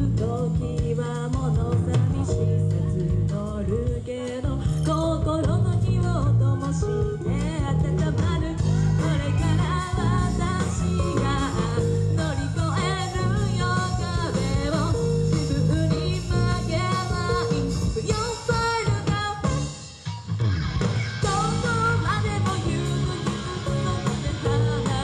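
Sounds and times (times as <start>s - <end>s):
person singing into microphone: 0.0s - 19.8s, 21.2s - 25.0s
rock band playing: 4.7s - 25.0s.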